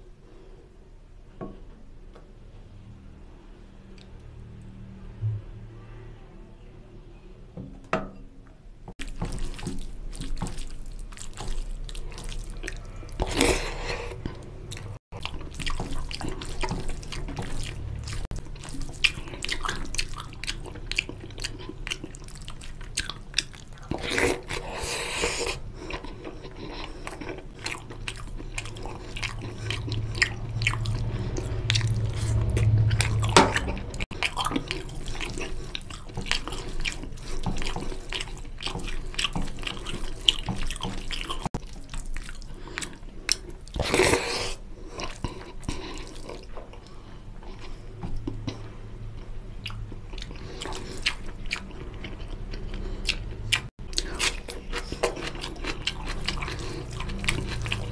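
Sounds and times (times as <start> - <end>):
wet chewing and lip-smacking: 9.0 - 57.9.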